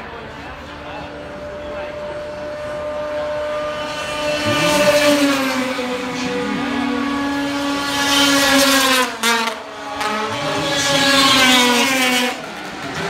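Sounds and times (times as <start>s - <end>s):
snowmobile engines at high revs: 0.9s - 13.0s.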